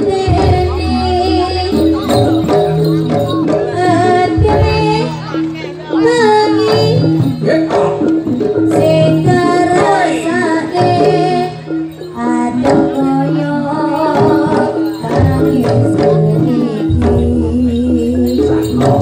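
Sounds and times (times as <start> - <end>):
melodic instruments holding notes: 0.0 - 19.0
person singing: 0.0 - 19.0
steady percussion: 0.0 - 19.0.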